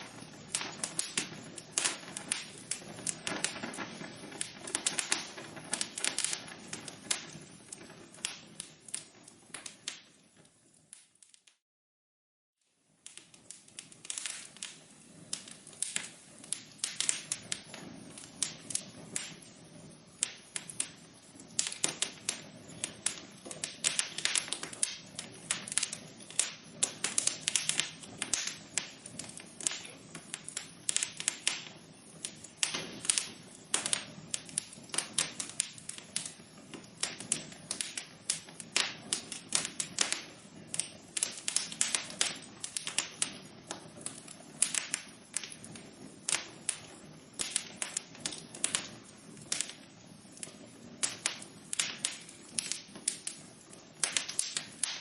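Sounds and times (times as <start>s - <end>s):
wood fire crackling: 0.0s - 11.6s, 12.6s - 55.0s.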